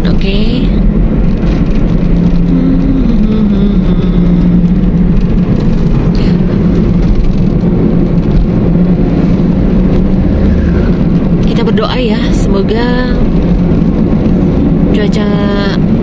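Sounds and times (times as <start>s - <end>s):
car engine drone: 0.0s - 16.0s
road rumble: 0.0s - 16.0s.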